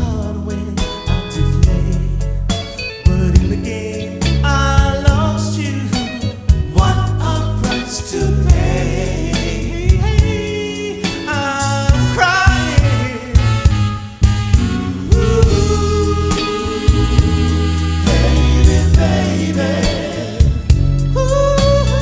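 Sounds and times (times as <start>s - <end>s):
live soul band with singing: 0.0s - 22.0s.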